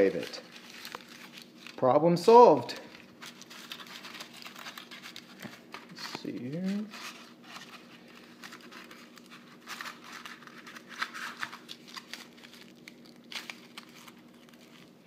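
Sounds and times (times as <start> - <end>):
aluminium foil crinkling: 0.0 - 1.8, 2.6 - 15.0.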